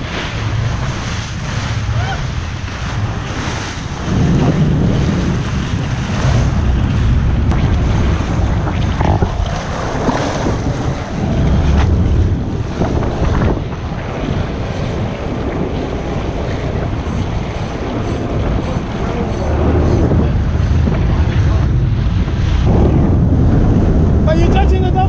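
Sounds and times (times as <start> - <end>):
water splashing along boat hull: 0.0 - 25.0
wind buffeting microphone: 0.0 - 25.0.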